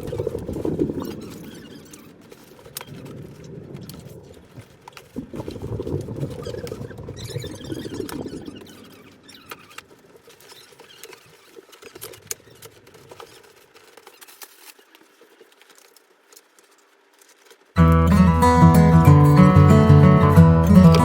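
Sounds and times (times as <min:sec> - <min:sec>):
faint rustle: 0:00.0 - 0:17.8.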